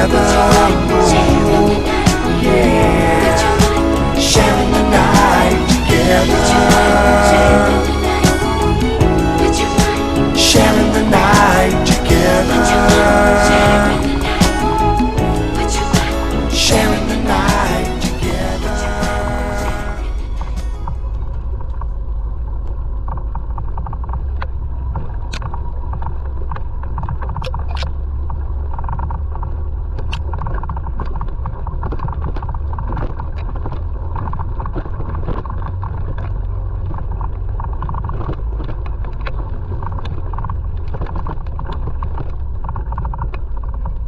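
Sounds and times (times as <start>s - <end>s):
atv engine rumble: 0.0s - 44.0s.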